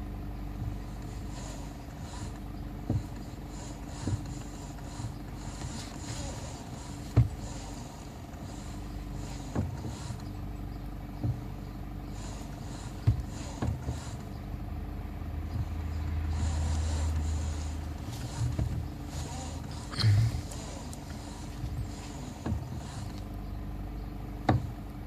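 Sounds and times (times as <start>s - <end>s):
low rumble: 0.0s - 25.0s
vehicle engine droning: 0.0s - 25.0s.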